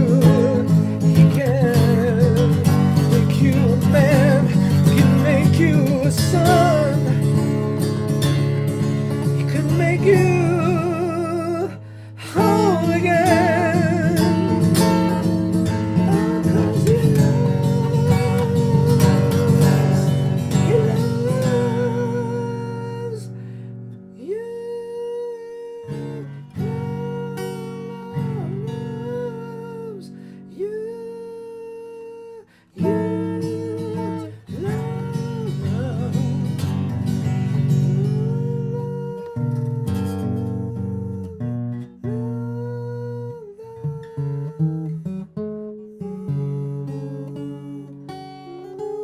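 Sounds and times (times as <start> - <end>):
acoustic guitar: 0.0 - 49.0.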